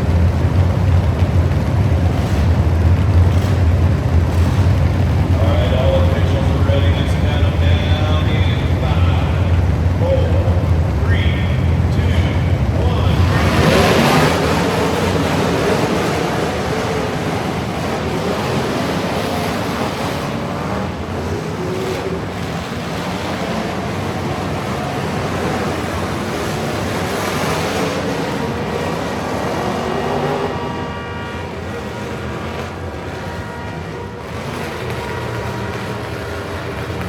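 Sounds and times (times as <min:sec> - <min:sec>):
loud steady rushing noise: 0:00.0 - 0:37.0
truck engine under load: 0:00.0 - 0:37.0.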